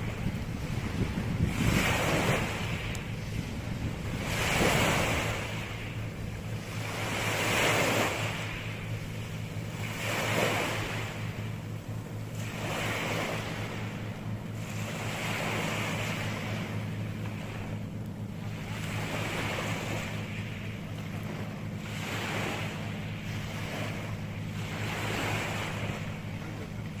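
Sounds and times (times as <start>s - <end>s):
sea waves washing onto shore: 0.0s - 27.0s
steady low rumble: 0.0s - 27.0s.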